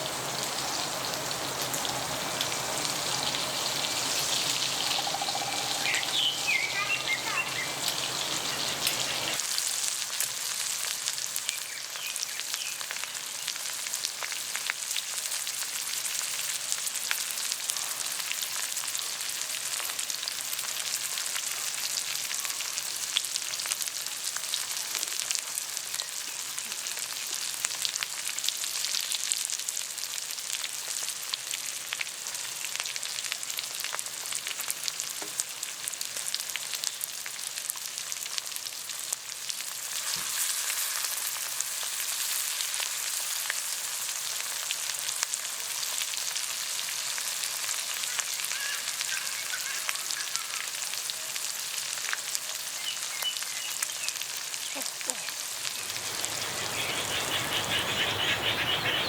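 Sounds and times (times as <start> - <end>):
food sizzling on a griddle: 0.0 - 59.0.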